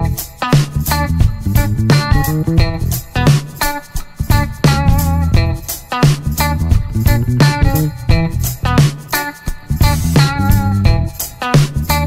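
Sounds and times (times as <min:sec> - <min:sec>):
guitar: 0:00.0 - 0:12.0
plucked bass guitar: 0:00.0 - 0:12.0
steady beat: 0:00.0 - 0:12.0.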